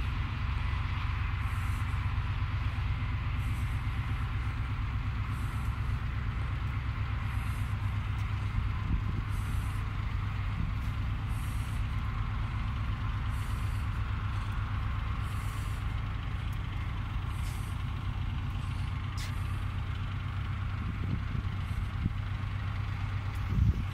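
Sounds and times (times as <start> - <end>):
heavy engine idling: 0.0 - 23.9.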